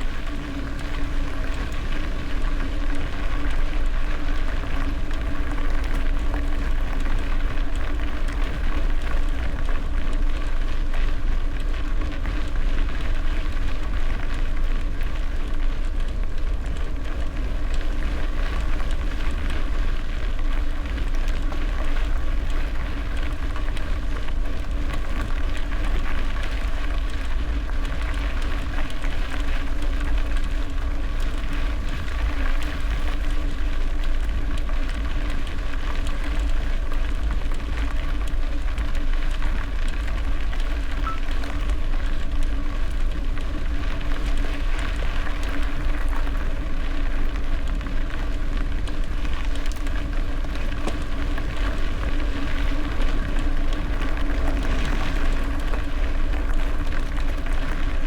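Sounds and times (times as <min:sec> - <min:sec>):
bike tyres rolling rush: 0:00.0 - 0:58.0.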